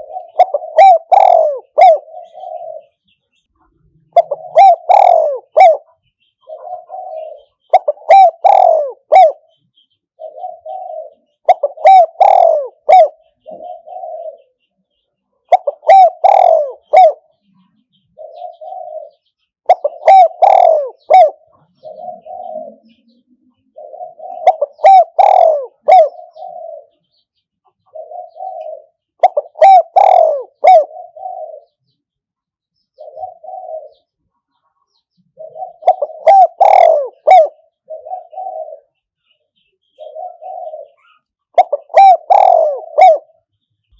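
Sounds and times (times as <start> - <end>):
dove cooing: 0.0 - 14.7, 15.4 - 32.0, 33.0 - 43.5.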